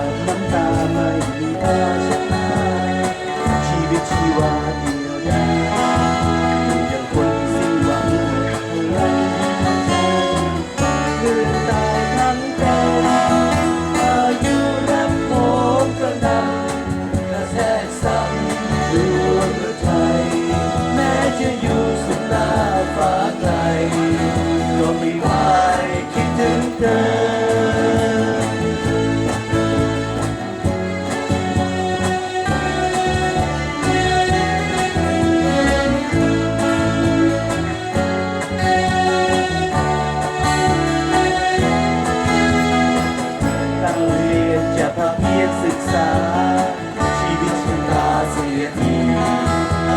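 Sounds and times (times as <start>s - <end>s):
lead singer singing: 0.0s - 31.5s, 39.3s - 49.9s
band playing pop song live: 0.0s - 49.9s
guitar: 0.0s - 49.9s.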